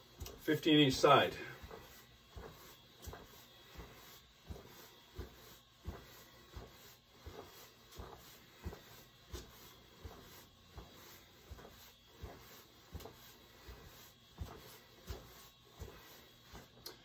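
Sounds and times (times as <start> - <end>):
footsteps marching on the spot: 0.0 - 17.0.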